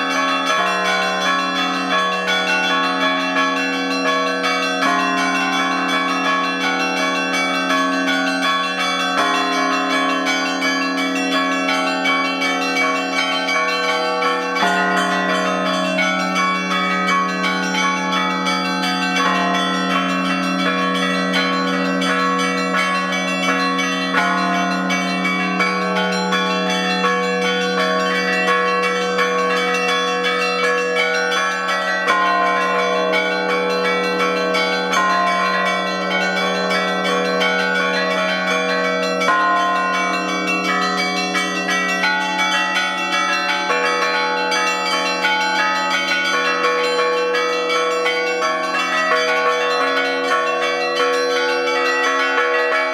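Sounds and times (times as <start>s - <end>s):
deep hum of large bell: 0.0s - 51.5s
church bells pealing: 0.0s - 52.9s.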